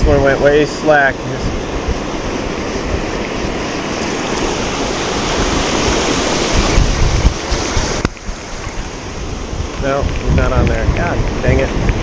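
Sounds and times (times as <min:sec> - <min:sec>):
ocean surf washing onto beach: 0:00.0 - 0:12.0
wind on microphone: 0:00.0 - 0:12.0.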